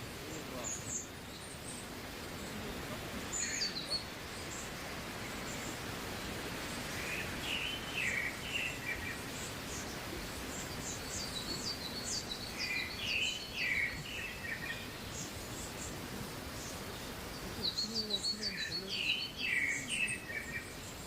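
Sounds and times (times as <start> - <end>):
birds calling: 0.0 - 21.0
forest background hiss: 0.0 - 21.0.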